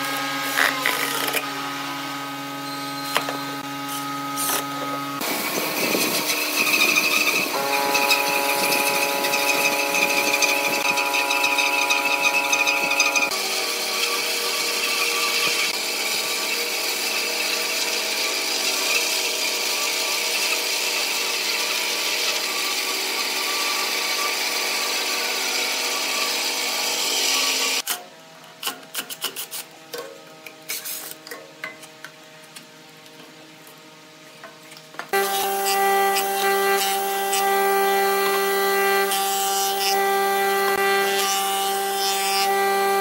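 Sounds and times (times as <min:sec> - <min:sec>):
bandsaw cutting through log: 0:00.0 - 0:28.0, 0:35.1 - 0:43.0.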